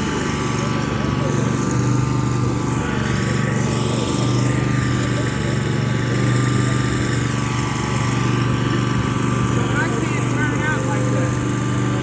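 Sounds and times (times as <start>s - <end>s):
riding lawn mower engine running: 0.0s - 12.0s.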